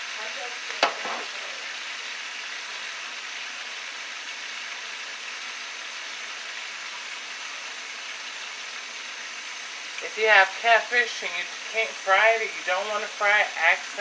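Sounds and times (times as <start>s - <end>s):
fish frying in a pan: 0.0s - 14.0s.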